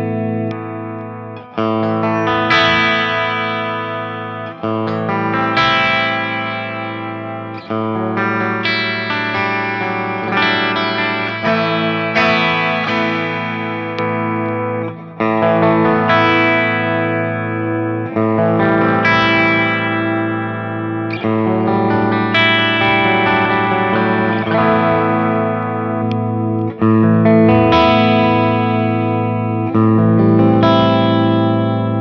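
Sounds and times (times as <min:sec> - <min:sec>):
clean electric guitar chords: 0:00.0 - 0:32.0.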